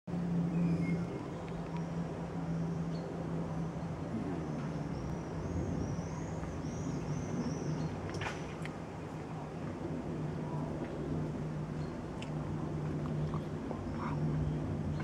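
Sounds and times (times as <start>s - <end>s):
constant low hum: 0.1s - 15.0s
jet engines droning overhead: 0.1s - 15.0s.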